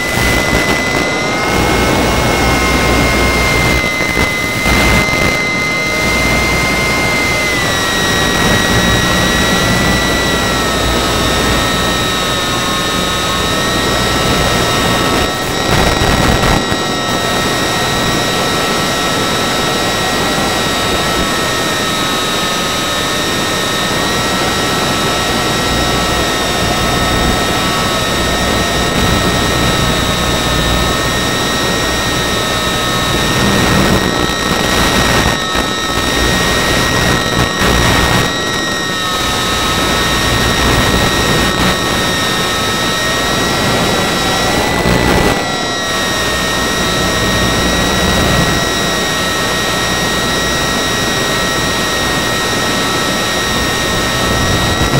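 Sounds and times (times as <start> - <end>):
small propeller motor whining: 0.0 - 54.8
wind noise: 0.0 - 54.9.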